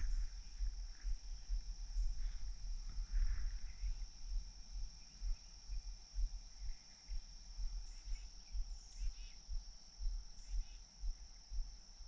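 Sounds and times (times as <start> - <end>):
faint bird chirps: 0.0 - 12.0
wind rumble on microphone: 0.0 - 12.0.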